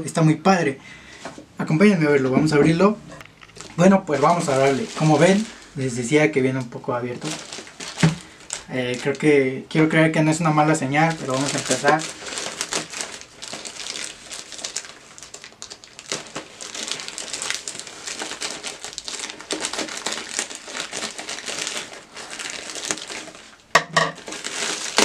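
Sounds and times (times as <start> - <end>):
plastic bag crinkling and rustling: 1.1 - 25.0.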